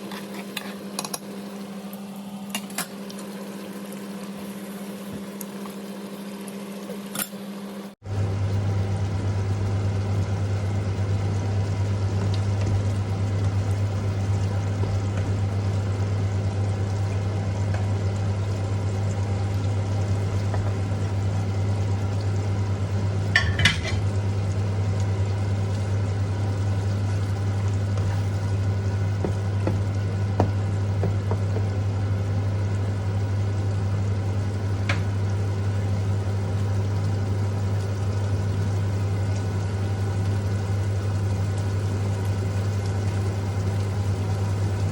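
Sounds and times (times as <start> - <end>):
food cooking in a pan: 0.0 - 44.9
steady low hum: 8.0 - 44.9.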